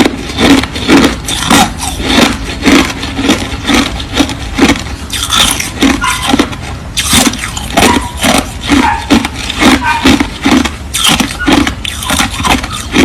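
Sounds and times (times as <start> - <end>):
crushed ice being chewed: 0.0 - 13.0.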